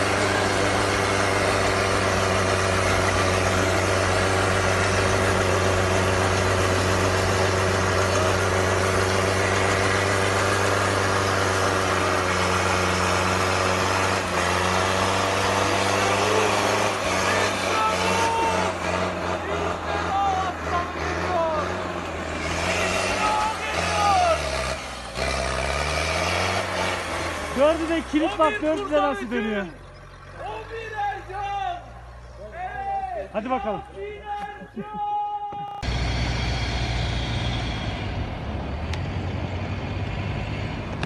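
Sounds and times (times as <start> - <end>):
truck engine at low revs: 0.0 - 35.0, 35.7 - 41.0.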